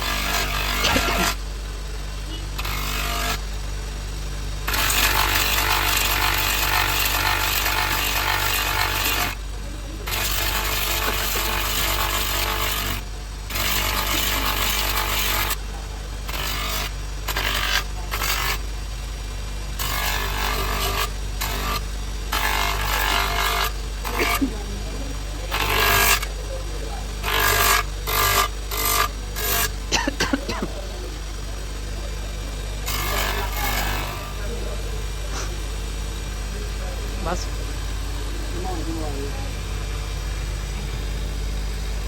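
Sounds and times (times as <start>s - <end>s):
woodworking power tool humming: 0.0s - 42.0s.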